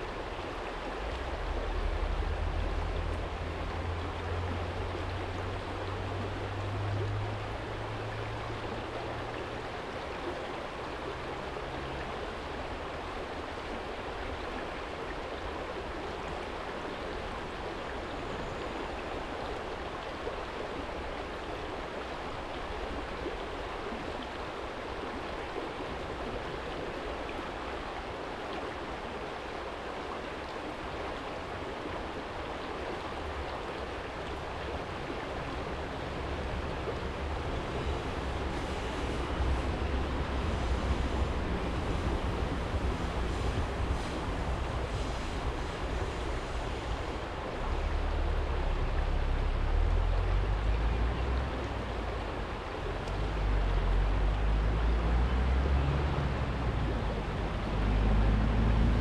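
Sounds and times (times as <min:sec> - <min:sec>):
stream rippling over stones: 0:00.0 - 0:59.0.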